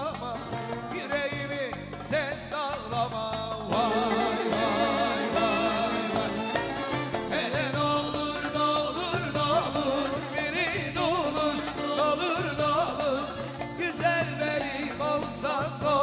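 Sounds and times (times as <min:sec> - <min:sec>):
live band playing folk song: 0:00.0 - 0:16.0.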